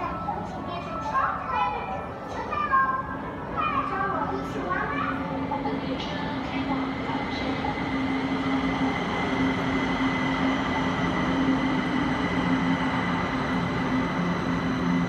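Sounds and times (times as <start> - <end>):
metro train running noise: 0.0 - 15.0.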